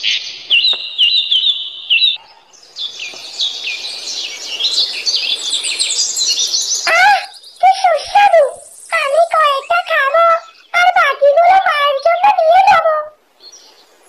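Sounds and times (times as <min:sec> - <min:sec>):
birds chirping and twittering: 0:00.0 - 0:14.0
faint hiss: 0:00.0 - 0:14.0.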